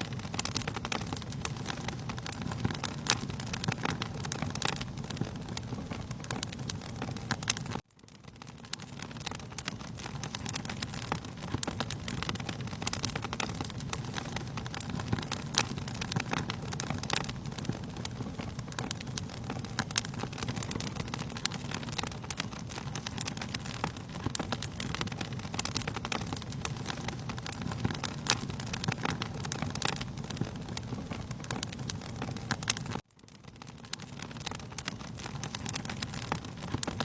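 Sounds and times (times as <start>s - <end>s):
low roar of burning: 0.0s - 37.0s
wood fire crackling: 0.0s - 37.0s.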